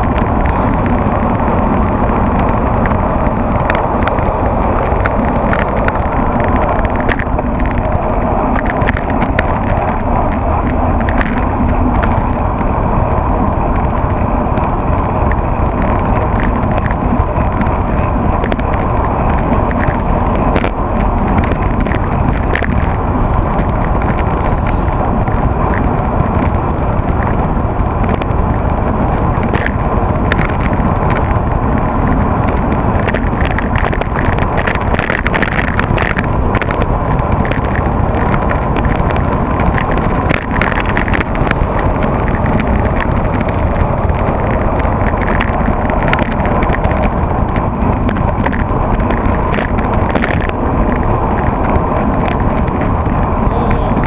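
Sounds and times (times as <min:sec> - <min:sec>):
bike clicks and rattles: 0:00.0 - 0:54.0
road noise: 0:00.0 - 0:54.0
wind rush: 0:00.0 - 0:54.0.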